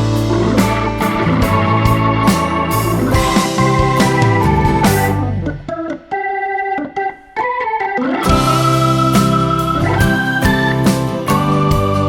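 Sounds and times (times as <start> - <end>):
music with regular beat hits: 0.0 - 6.2, 8.3 - 12.0
organ-like keyboard chords: 0.0 - 12.0.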